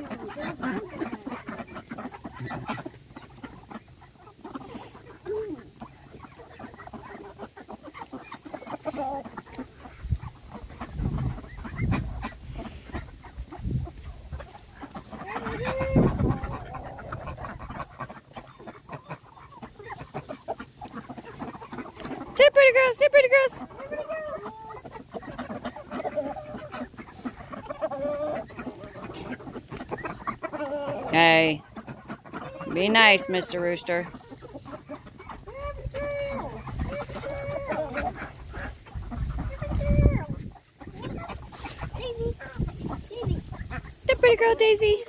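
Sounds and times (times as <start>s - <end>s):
hens clucking: 0.0s - 45.0s
poultry calls: 0.0s - 45.0s.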